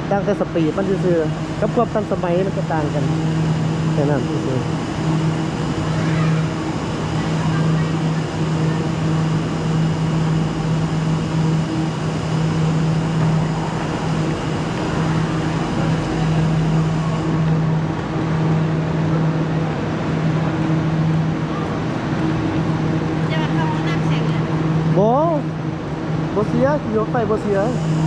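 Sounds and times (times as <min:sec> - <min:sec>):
noisy wash: 0:00.0 - 0:28.0
train mechanical hum: 0:00.0 - 0:28.0.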